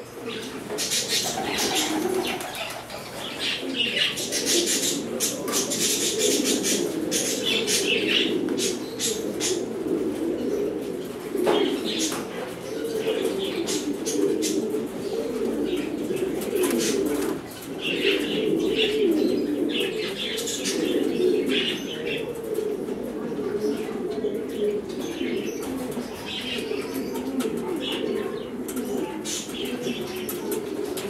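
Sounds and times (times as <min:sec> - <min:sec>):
pigeons chirping: 0:00.0 - 0:31.0
pigeons cooing: 0:00.0 - 0:31.0.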